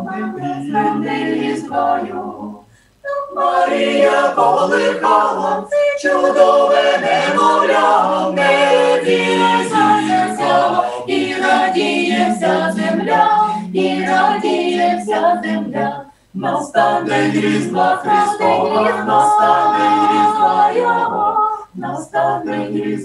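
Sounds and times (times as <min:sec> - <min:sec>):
mixed choir singing a cappella: 0:00.0 - 0:23.0.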